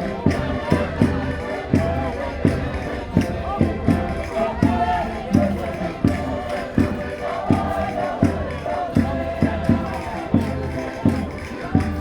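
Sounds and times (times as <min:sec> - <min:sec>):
concertinas playing folk tune: 0:00.0 - 0:12.0
voices singing along: 0:00.0 - 0:12.0.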